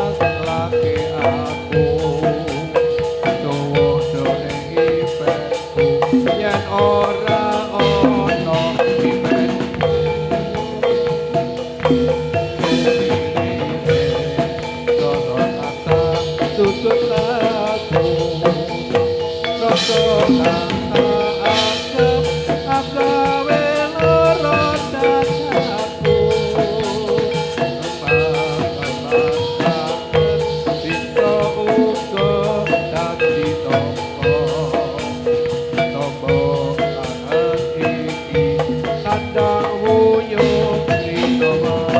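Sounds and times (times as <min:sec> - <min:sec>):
drum beats: 0:00.0 - 0:41.9
metal mallet instruments: 0:00.0 - 0:41.9.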